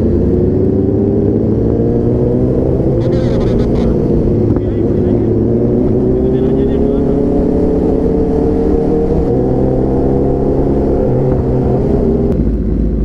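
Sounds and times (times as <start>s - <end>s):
low rumble: 0.0s - 13.0s
motorcycle engine running: 0.0s - 13.0s.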